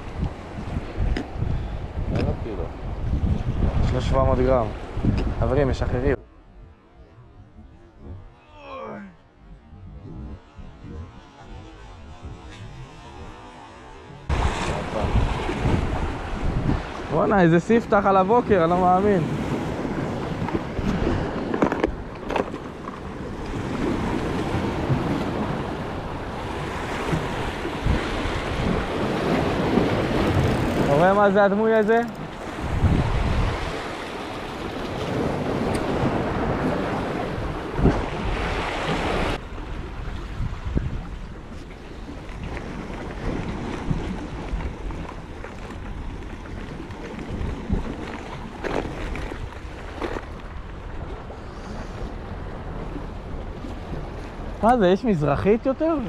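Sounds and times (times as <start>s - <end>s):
wind buffeting microphone: 0.0s - 56.0s
sea waves washing on shore: 10.2s - 56.0s.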